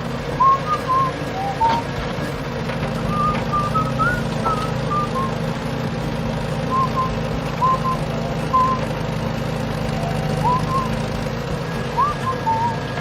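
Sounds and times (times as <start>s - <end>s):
construction vehicle engine drone: 0.0s - 13.0s.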